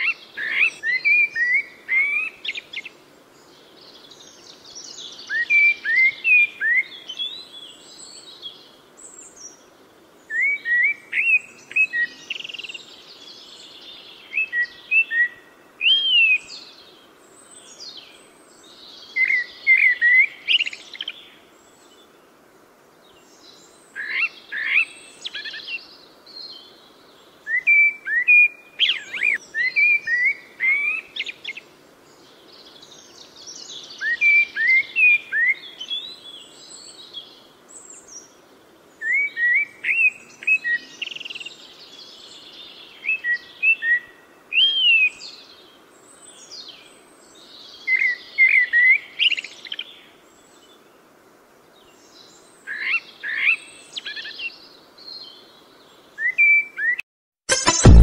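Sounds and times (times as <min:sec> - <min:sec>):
faint background noise: 0:00.0 - 0:58.0.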